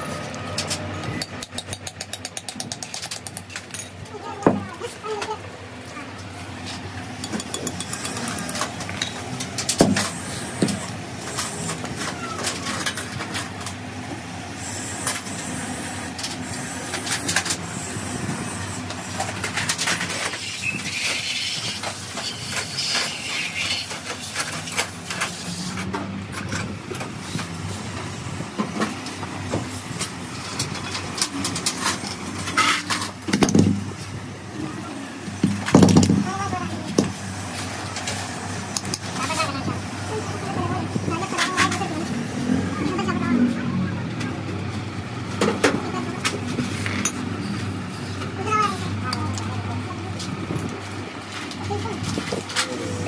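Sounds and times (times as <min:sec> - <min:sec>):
steady background noise: 0:00.0 - 0:53.0.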